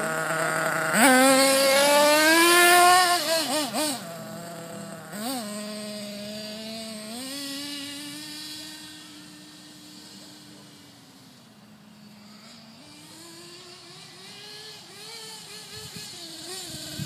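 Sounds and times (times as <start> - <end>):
model engine revving: 0.0 - 17.0.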